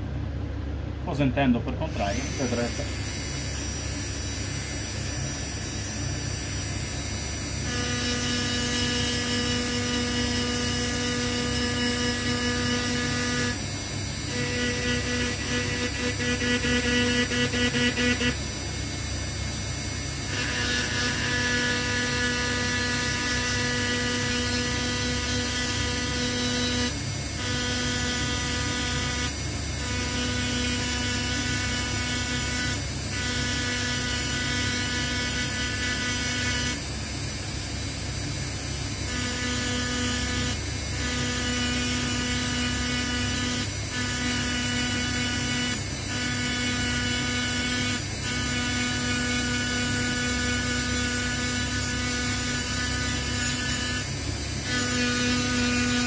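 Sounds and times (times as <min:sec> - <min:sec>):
rotary tool grinding metal: 0:01.9 - 0:18.4, 0:20.2 - 0:36.8, 0:39.0 - 0:56.0
electric rotary tool whining: 0:01.9 - 0:18.5, 0:19.1 - 0:37.0, 0:38.9 - 0:56.0.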